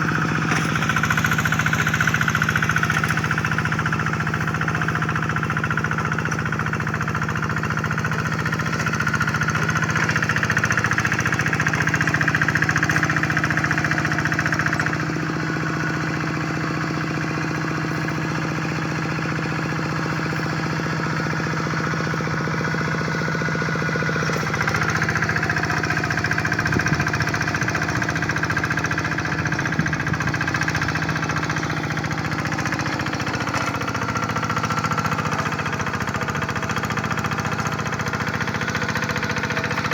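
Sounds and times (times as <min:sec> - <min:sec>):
diesel engine knocking chug: 0:00.0 - 0:39.9.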